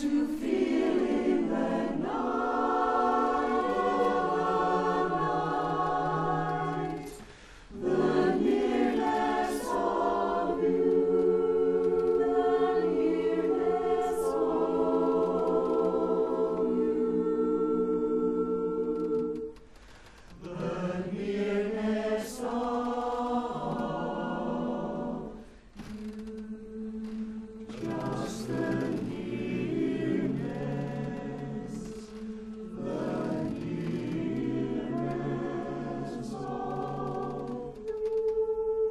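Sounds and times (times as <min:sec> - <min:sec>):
a cappella chorus singing: 0:00.0 - 0:38.9.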